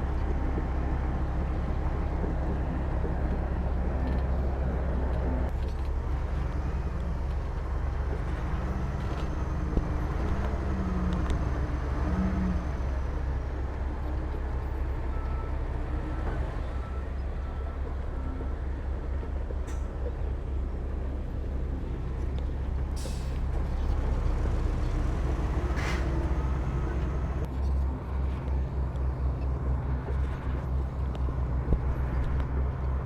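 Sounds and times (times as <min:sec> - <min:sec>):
diesel engine rumble: 0:00.0 - 0:33.0.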